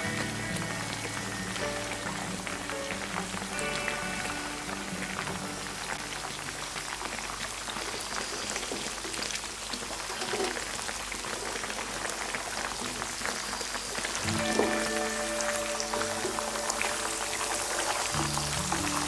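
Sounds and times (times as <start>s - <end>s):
hot oil sizzling and crackling: 0.0s - 19.0s.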